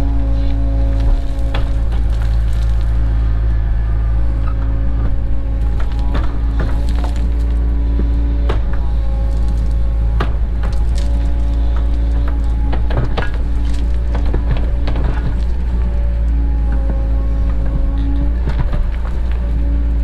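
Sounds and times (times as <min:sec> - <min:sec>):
diesel engine running: 0:00.0 - 0:20.0
hydraulic whine: 0:00.0 - 0:20.0.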